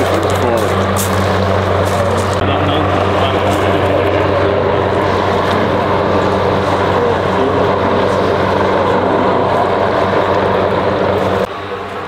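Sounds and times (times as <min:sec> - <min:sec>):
helicopter hovering: 0:00.0 - 0:12.0.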